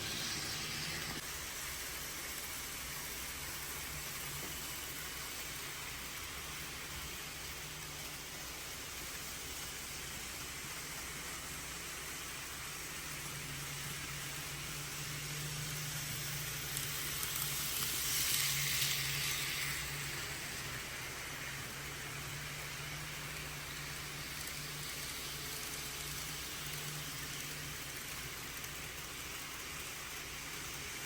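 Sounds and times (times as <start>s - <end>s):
train hiss: 0.0s - 31.0s.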